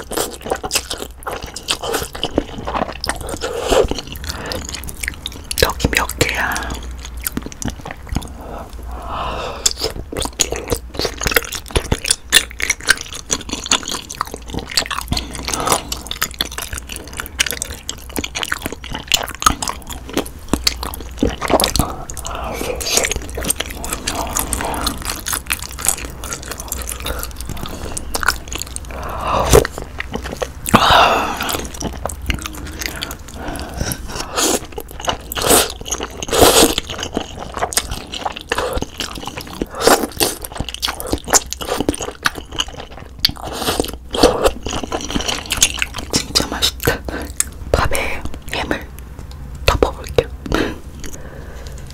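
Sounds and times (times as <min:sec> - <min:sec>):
wet chewing sounds: 0:00.0 - 0:51.9.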